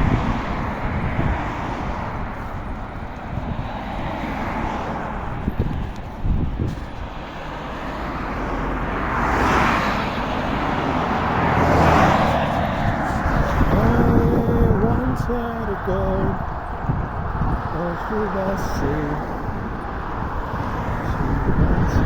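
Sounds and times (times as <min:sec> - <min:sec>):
motor vehicles passing: 0:00.0 - 0:22.0
road traffic rumble and hiss: 0:00.0 - 0:22.0.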